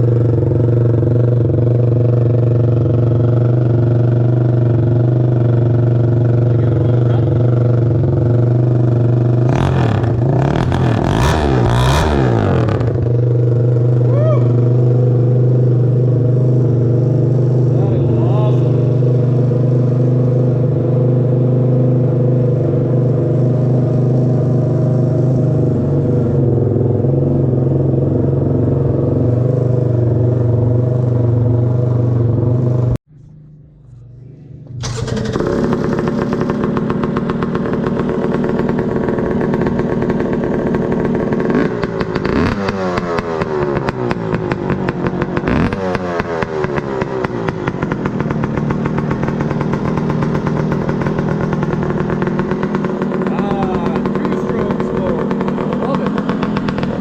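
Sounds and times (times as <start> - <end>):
atv engine revving: 0.0 - 33.0, 34.6 - 57.0
atv engine running: 0.0 - 57.0.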